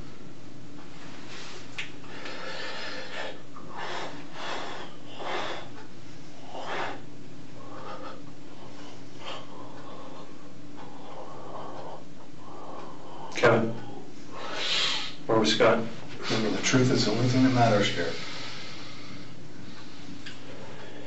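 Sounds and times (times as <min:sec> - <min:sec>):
low room hum: 0:00.0 - 0:21.0
man breathing heavily and sniffling: 0:01.2 - 0:15.2, 0:18.0 - 0:21.0.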